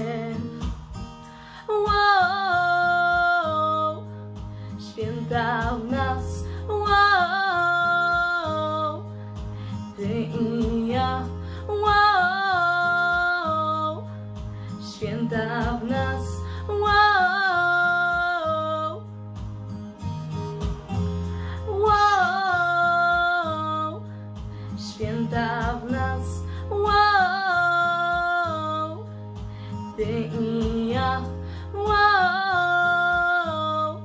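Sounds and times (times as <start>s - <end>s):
girl singing pop song: 0.0s - 34.0s
instrumental backing track: 0.0s - 34.0s.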